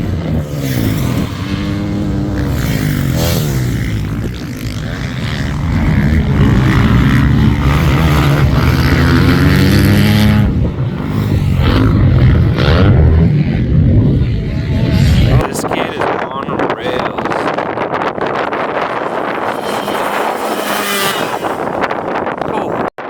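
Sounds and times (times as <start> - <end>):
dirt bike engines revving: 0.0 - 22.9.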